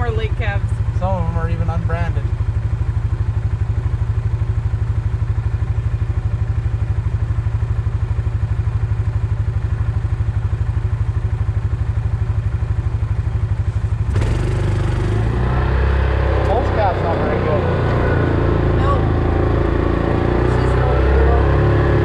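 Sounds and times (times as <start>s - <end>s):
vehicle engine running steadily: 0.0s - 22.0s.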